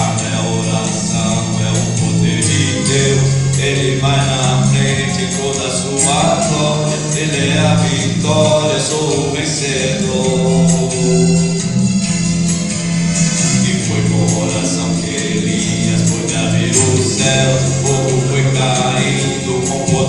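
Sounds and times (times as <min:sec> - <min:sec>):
voices singing gospel: 0:00.0 - 0:12.5, 0:13.2 - 0:20.0.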